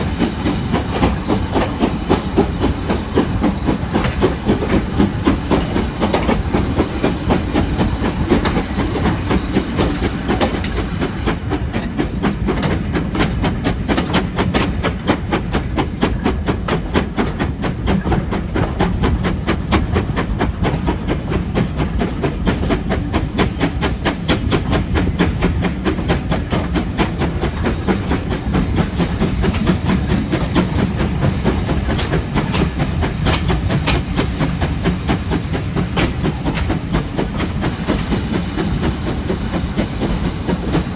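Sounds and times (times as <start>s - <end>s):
steam hissing: 0.0s - 12.5s, 13.4s - 40.9s
steam train running beat: 0.0s - 40.9s.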